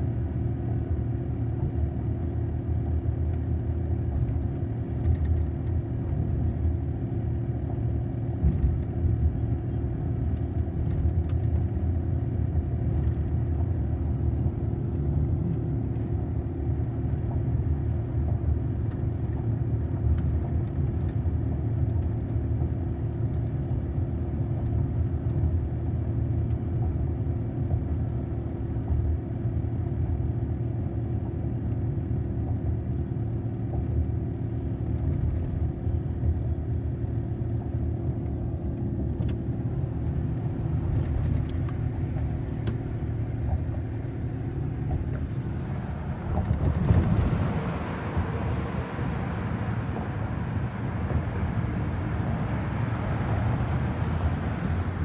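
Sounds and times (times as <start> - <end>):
constant hum: 0.0 - 55.0
road and engine rumble: 0.0 - 55.0.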